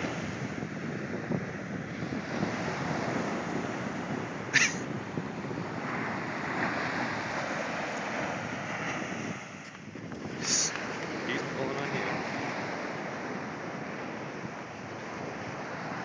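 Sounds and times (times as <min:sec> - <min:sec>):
small waves breaking on sand: 0:00.0 - 0:16.0
wind on microphone: 0:00.0 - 0:16.0.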